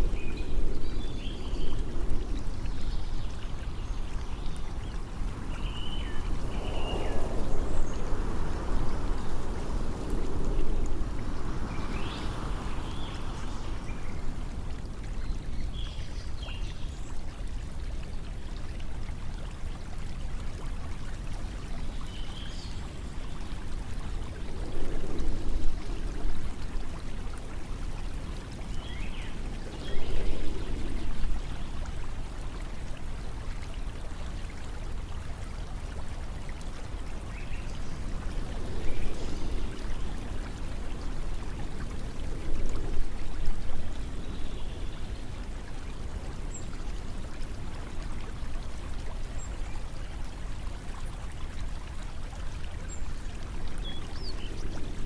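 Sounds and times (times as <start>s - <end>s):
flowing water rushing: 0.0s - 55.0s
low wind rumble: 0.0s - 55.0s.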